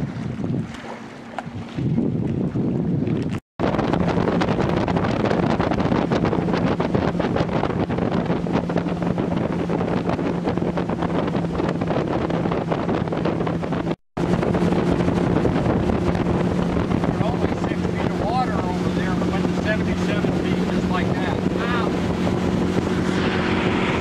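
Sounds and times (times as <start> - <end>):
motorboat engine hum: 0.0 - 24.0
wind buffeting microphone: 0.0 - 24.0.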